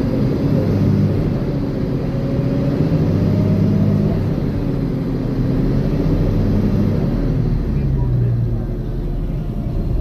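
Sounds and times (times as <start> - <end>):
bus diesel engine idling: 0.0 - 10.0.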